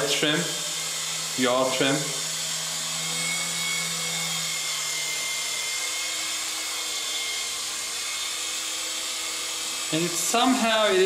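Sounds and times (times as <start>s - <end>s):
toy helicopter rotors whirring: 0.0s - 11.0s.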